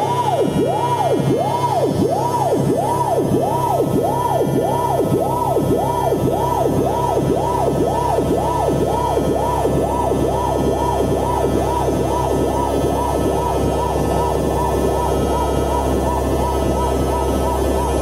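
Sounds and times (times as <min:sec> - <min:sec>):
droning chord: 0:00.0 - 0:18.0
swooping siren-like tone: 0:00.0 - 0:18.0.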